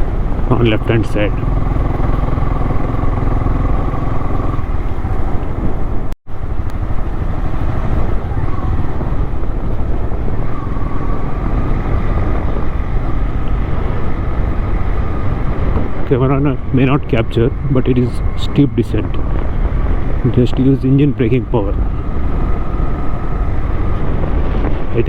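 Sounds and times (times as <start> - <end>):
motorcycle engine running: 0.0 - 24.9
wind rumble on microphone: 0.0 - 25.0.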